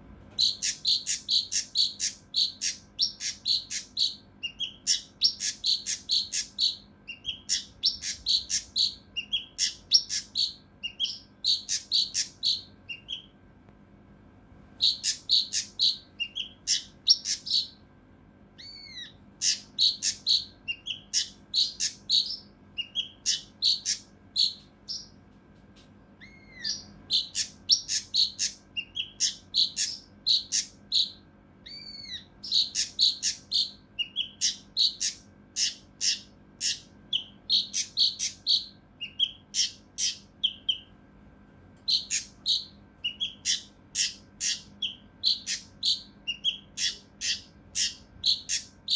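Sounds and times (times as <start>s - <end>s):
bird calling in rapid bursts: 0.4s - 13.3s, 14.8s - 17.8s, 18.6s - 25.2s, 26.2s - 40.9s, 41.9s - 48.9s.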